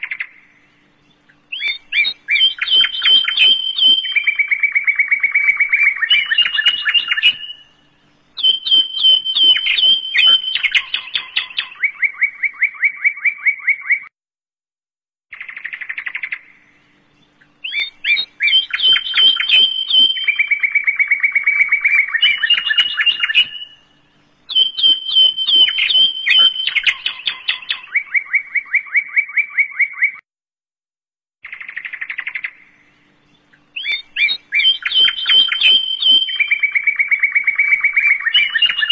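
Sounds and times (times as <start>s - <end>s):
birds chirping and trilling: 0.0s - 14.1s, 15.3s - 30.2s, 31.4s - 38.9s.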